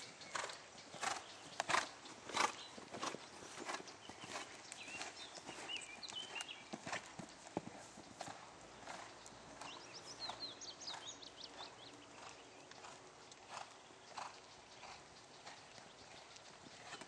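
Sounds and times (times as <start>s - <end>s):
horse hooves on sand: 0.0s - 17.0s.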